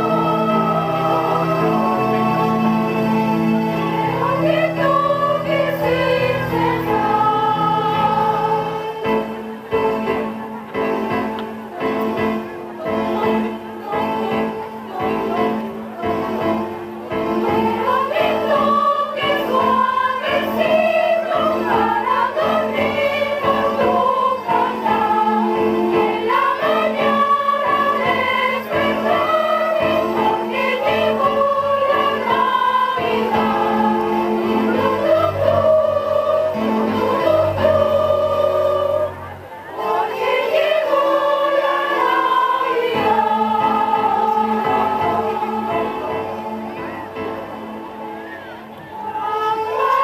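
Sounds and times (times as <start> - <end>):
children's choir singing: 0.0 - 50.0.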